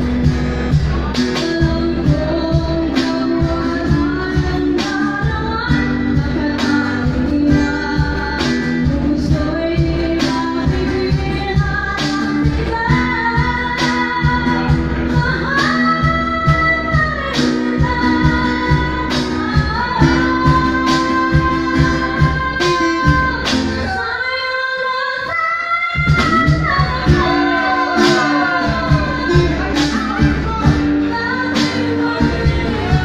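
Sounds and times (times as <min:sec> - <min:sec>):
hand drum beat: 0:00.0 - 0:24.0, 0:25.9 - 0:33.0
acoustic band accompaniment: 0:00.0 - 0:33.0
woman singing a slow ballad: 0:00.0 - 0:33.0.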